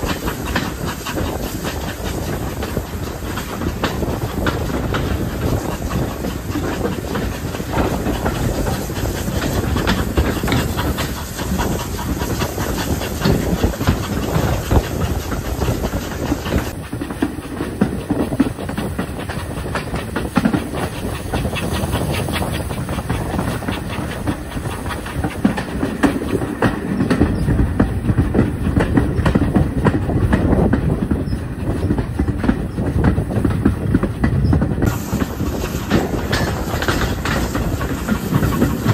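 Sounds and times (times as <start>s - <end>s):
steam hissing: 0.0s - 38.9s
train wheels clattering on rails: 0.0s - 38.9s.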